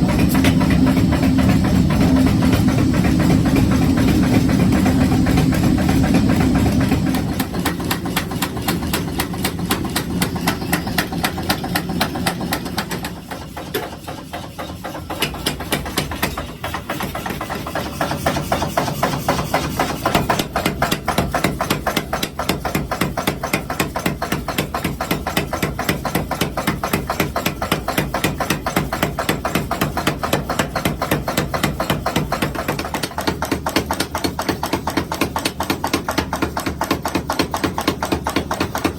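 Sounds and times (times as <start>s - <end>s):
machine rumble: 0.0s - 38.9s
power hammer pounding steel: 0.0s - 38.9s.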